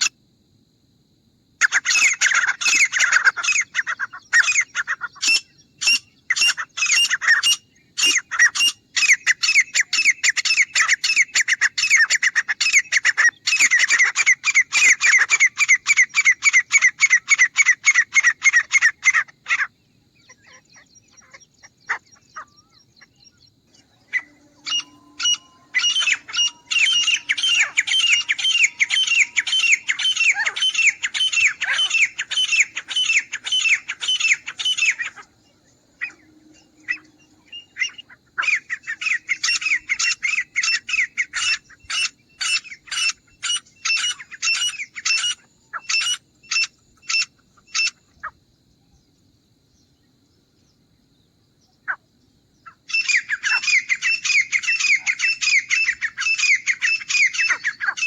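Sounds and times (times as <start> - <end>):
francolin calling: 1.6 - 49.0, 51.6 - 58.0.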